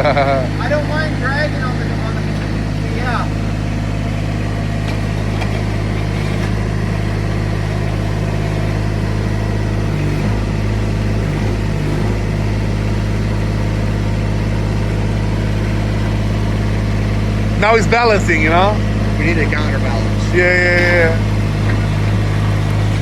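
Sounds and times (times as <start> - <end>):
diesel excavator engine running: 0.0 - 23.0.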